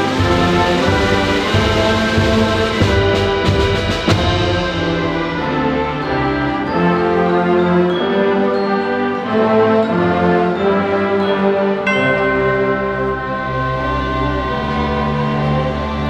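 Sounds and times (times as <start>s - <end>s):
orchestra playing slow chords: 0.0s - 16.0s
percussion strikes: 0.0s - 16.0s.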